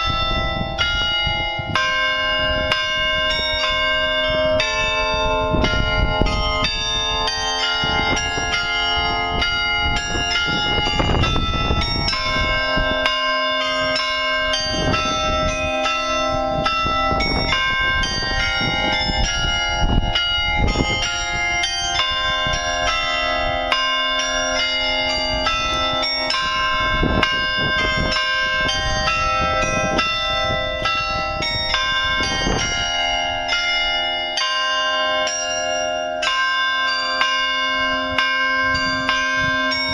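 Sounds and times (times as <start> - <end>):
carillon bells playing a tune: 0.0 - 39.9.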